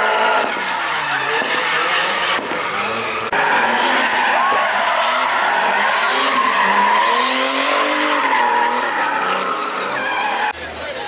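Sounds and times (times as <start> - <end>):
high-revving car engines: 0.0 - 11.0
tyres squealing: 0.5 - 10.6.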